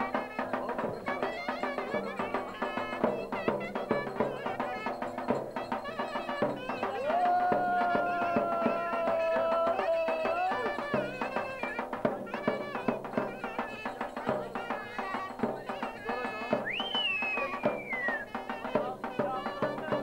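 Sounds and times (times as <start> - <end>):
drum beating steadily: 0.0 - 20.0
folk melody instrument: 0.0 - 20.0.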